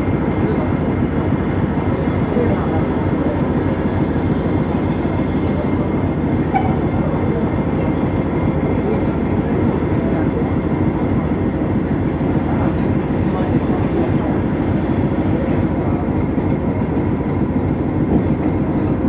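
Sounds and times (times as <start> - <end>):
steam locomotive rumbling: 0.0 - 19.0.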